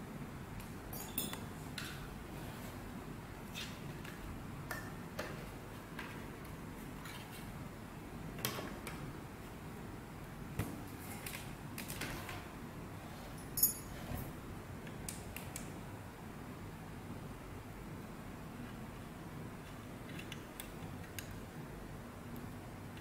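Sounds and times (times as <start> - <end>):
steady low hiss: 0.0 - 23.0.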